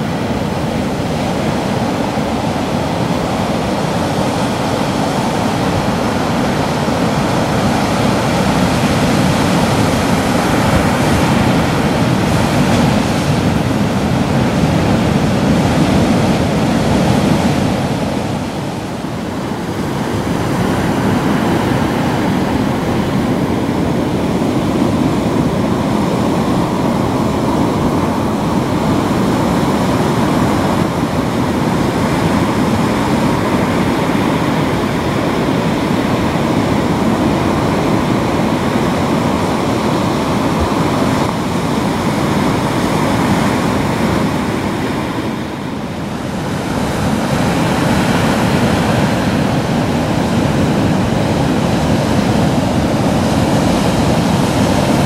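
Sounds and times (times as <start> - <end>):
waves breaking on beach: 0.0 - 55.0
wind: 0.0 - 55.0.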